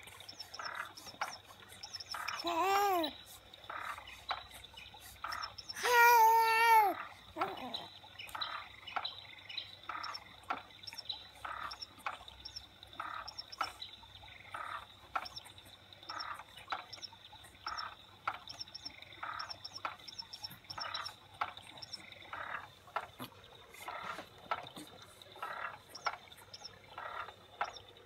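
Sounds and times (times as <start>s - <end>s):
recorded chirping and croaking calls: 0.0s - 28.0s.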